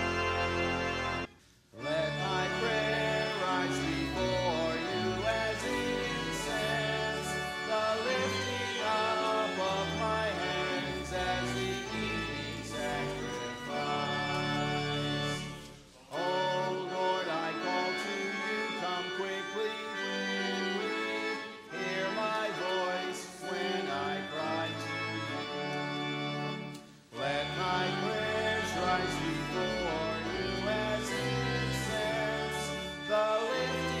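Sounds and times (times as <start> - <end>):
organ music: 0.0 - 34.0
person singing: 1.8 - 15.4, 16.2 - 25.8, 27.2 - 34.0.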